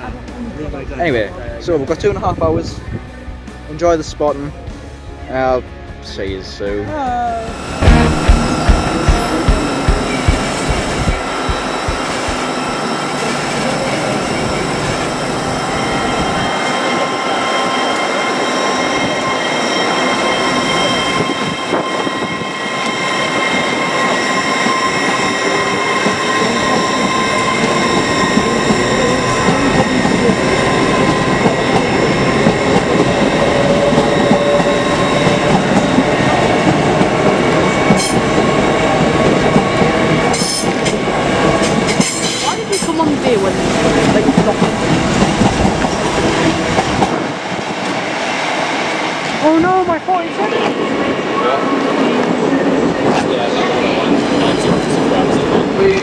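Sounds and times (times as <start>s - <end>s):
train rail and wheel noise: 0.0s - 56.0s
high whining train tones: 7.0s - 56.0s.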